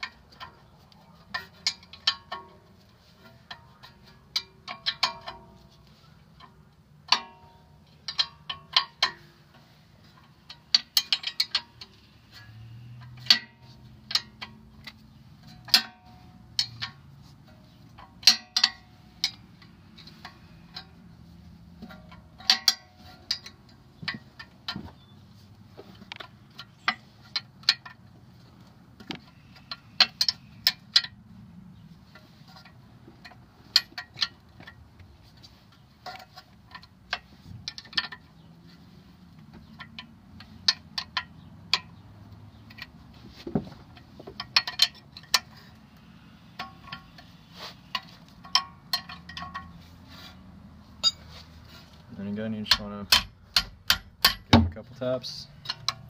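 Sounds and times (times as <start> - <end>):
metal tools clinking on metal: 0.0 - 31.2, 31.8 - 56.0.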